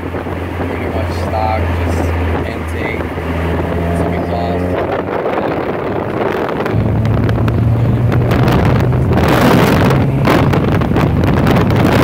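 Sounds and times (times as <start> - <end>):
car engine under load: 0.0 - 12.0
wind buffeting microphone: 0.0 - 12.0.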